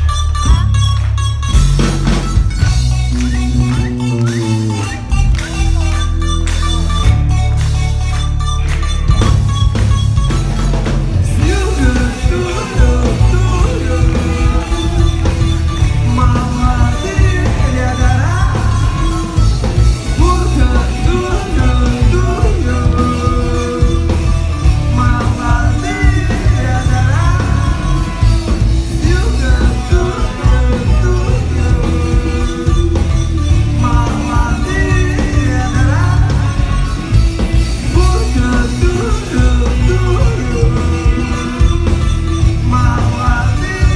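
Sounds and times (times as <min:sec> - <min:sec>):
rock song with singing: 0:00.0 - 0:43.9.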